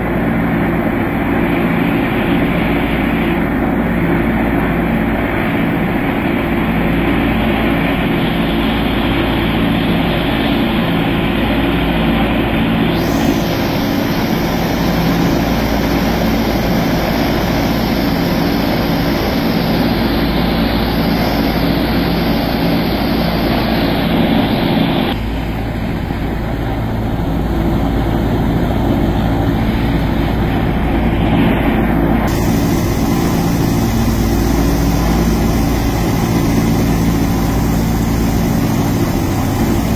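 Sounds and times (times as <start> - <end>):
propeller engines droning: 0.0 - 39.9
rush of air in cabin: 0.0 - 39.9.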